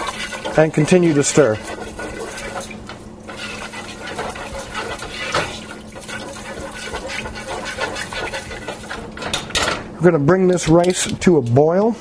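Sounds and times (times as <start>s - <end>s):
spoon scraping pot: 0.0s - 9.8s
liquid sloshing in pot: 0.0s - 11.3s.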